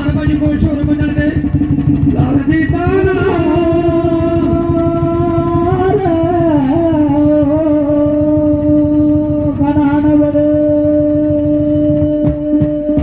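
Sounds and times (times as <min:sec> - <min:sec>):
fast drumming: 0:00.0 - 0:13.0
long held melodic note: 0:01.4 - 0:13.0.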